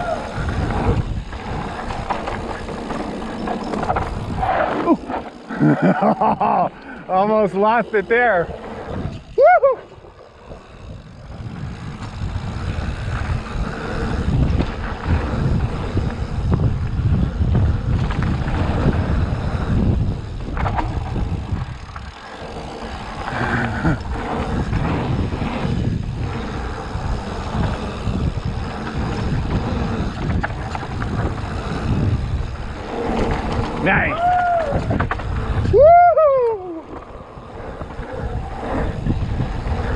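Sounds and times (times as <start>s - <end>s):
wind buffeting microphone: 0.0s - 6.1s, 6.7s - 39.9s
tyres rumbling on dirt: 0.0s - 9.4s, 10.0s - 39.9s
bike rattling and clicking: 0.0s - 39.9s.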